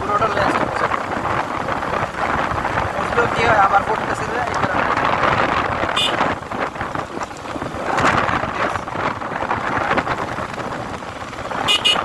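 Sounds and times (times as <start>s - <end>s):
motorcycle road noise: 0.0s - 12.0s
wind rushing over microphone: 0.0s - 12.0s.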